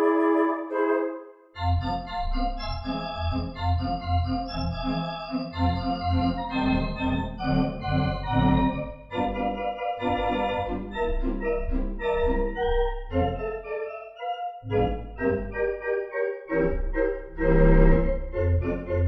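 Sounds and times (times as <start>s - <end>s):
brisk organ music: 1.6s - 19.0s.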